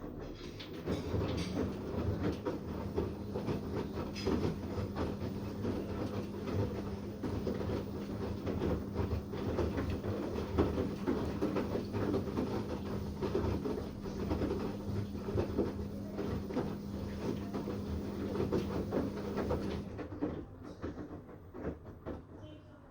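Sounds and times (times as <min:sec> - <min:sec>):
washing machine drum churning: 0:00.0 - 0:22.3
washing machine motor hum: 0:00.0 - 0:22.6.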